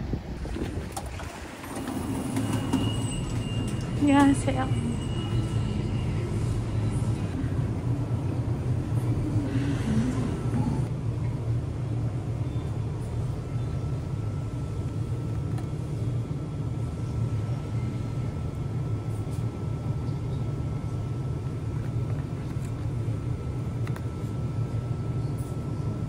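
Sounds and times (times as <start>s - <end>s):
refrigerator and ventilation hum: 0.0s - 26.0s.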